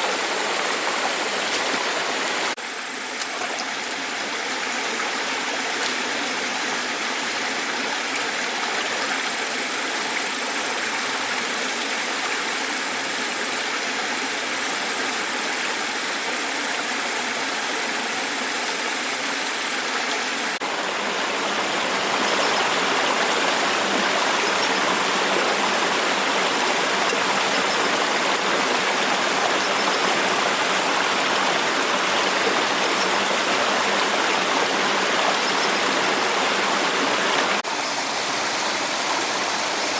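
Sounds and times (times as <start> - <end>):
water rushing: 0.0 - 12.5, 19.0 - 39.9.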